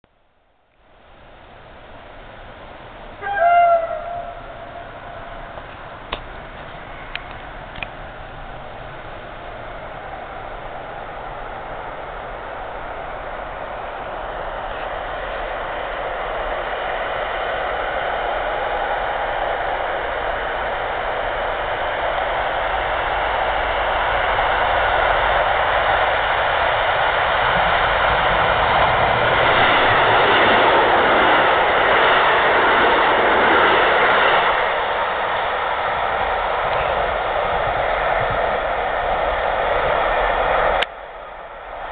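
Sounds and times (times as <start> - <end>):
electric train passing: 0.2 - 41.9.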